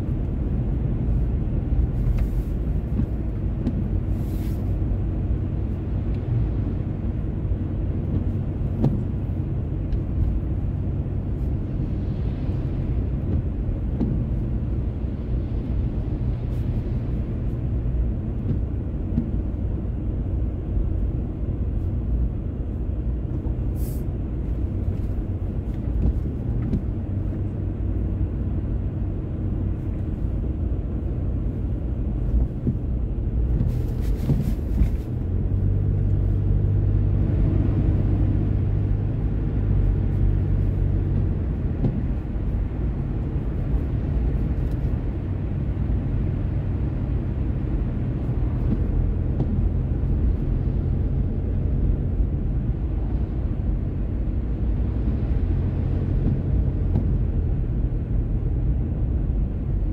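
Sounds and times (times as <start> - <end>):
car engine and tyres rumbling: 0.0 - 59.9
soft hiss of wet road: 0.0 - 59.9.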